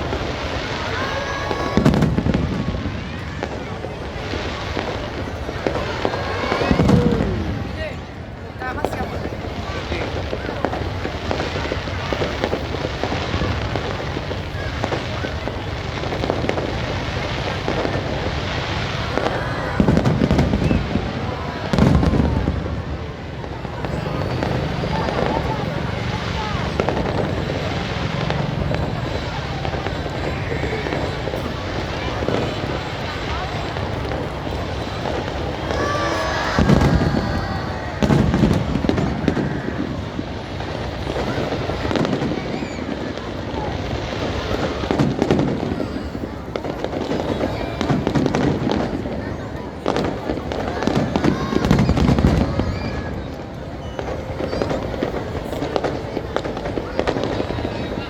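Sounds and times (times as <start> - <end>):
crowd noise: 0.0 - 58.0
deep firework booms: 0.0 - 58.0
fireworks crackling: 0.0 - 58.0.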